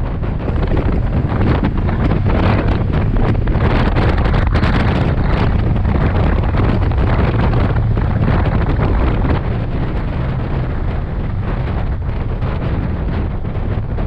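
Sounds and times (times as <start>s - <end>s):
motorcycle engine cruising: 0.0s - 14.0s
wind noise on microphone: 0.0s - 14.0s.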